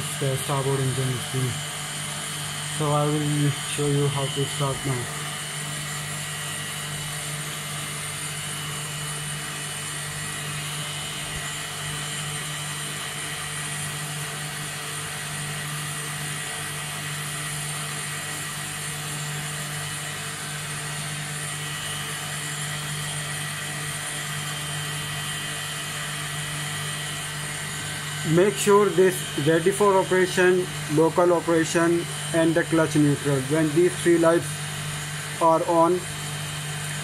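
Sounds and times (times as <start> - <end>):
machinery hum and whine: 0.0 - 37.0.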